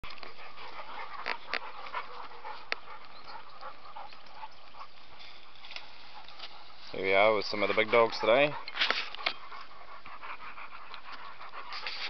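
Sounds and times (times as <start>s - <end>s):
dogs moving on dirt track: 0.0s - 12.0s.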